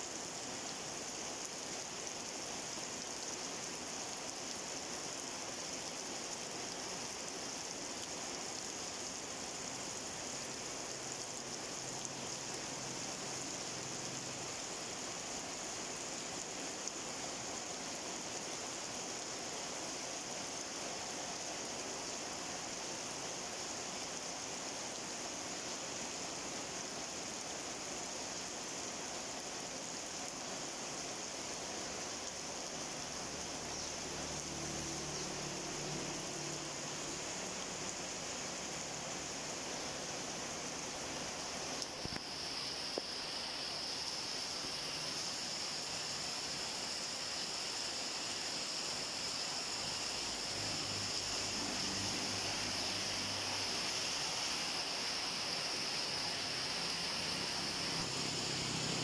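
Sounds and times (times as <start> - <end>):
steady rain on plants: 0.0 - 59.0.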